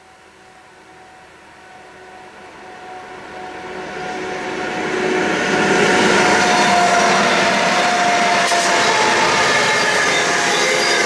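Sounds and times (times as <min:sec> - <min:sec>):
steady high whine: 0:00.0 - 0:11.0
train passing rumble: 0:00.3 - 0:11.0.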